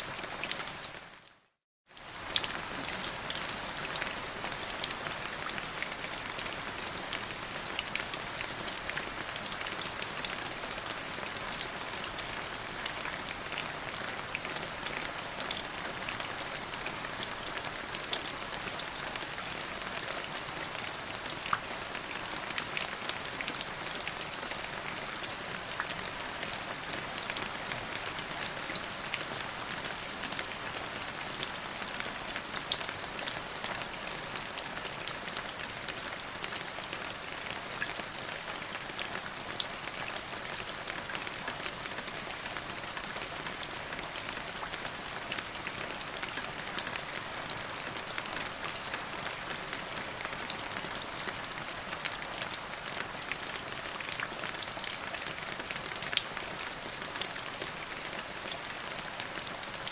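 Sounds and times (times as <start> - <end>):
steady rain with drop ticks: 0.0 - 59.9.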